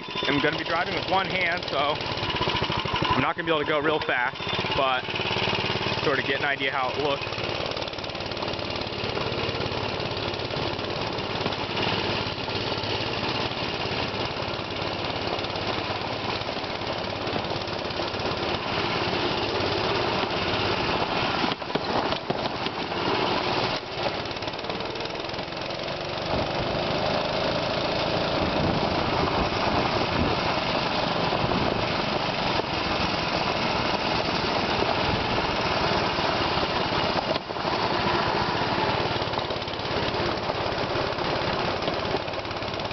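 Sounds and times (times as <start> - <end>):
mini-bike engine running: 0.0 - 42.9.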